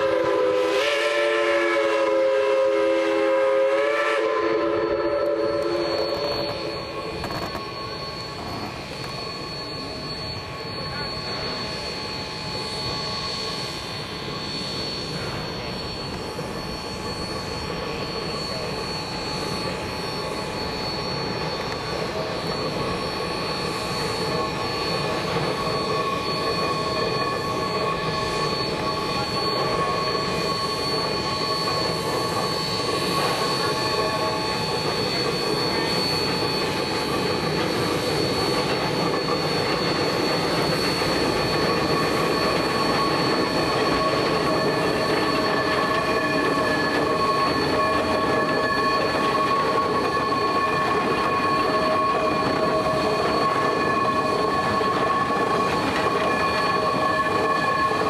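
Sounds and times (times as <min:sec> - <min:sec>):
high-pitched wheel squeal: 0:00.0 - 0:58.0
steam locomotives running: 0:00.0 - 0:58.0.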